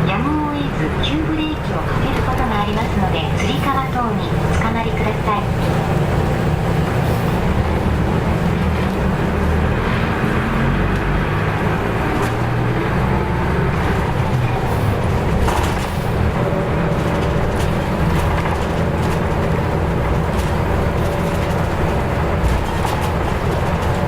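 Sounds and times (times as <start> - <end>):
bus diesel engine running: 0.0 - 24.0
road noise: 0.0 - 24.0.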